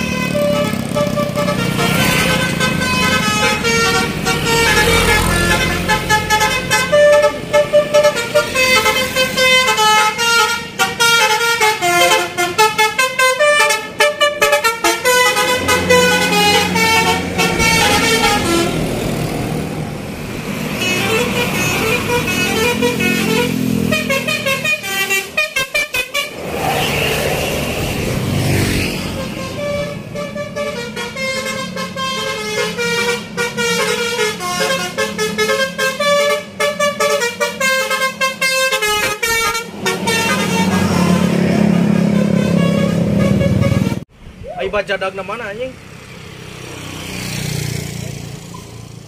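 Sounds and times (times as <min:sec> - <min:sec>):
multi-tone musical bus horn: 0:00.0 - 0:19.6, 0:20.6 - 0:44.1
bus engine running: 0:00.0 - 0:44.2.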